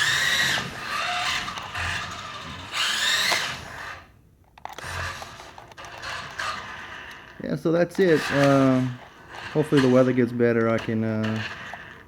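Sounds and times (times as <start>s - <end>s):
toy car electric motors whining: 0.0s - 12.0s.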